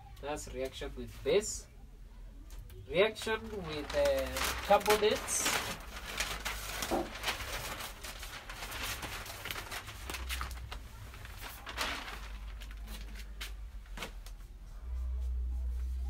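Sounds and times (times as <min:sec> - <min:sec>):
paper sheets rustling: 0:02.9 - 0:16.0.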